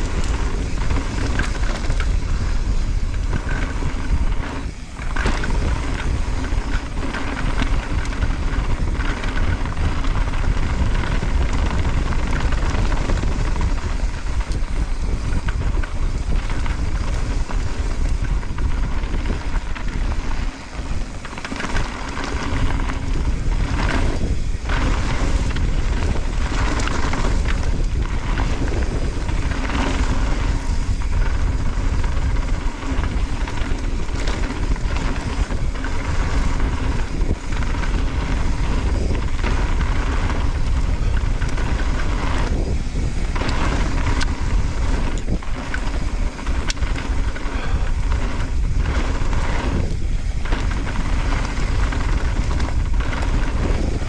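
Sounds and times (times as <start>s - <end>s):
bike rattling: 0.0s - 54.0s
bike tyres crunching over gravel: 0.0s - 54.0s
wind buffeting microphone: 0.0s - 54.0s.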